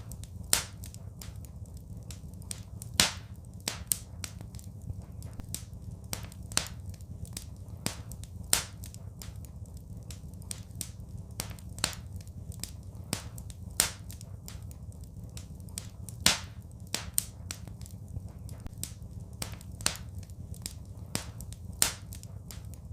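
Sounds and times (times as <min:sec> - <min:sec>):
low rumble of flames: 0:00.0 - 0:22.9
wood fire crackling and popping: 0:00.0 - 0:22.9.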